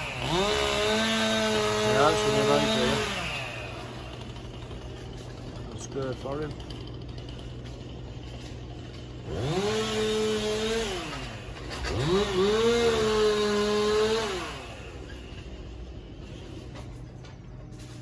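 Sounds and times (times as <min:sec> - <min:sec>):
chainsaw revving: 0:00.0 - 0:16.8.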